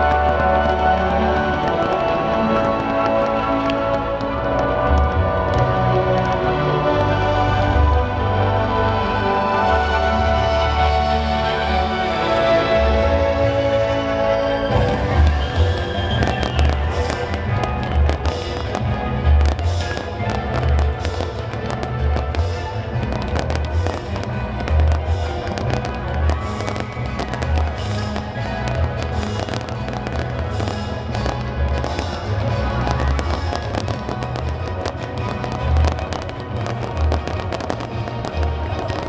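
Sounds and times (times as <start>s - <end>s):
fireworks booming and crackling: 0.0s - 39.0s
music playing: 0.0s - 39.0s.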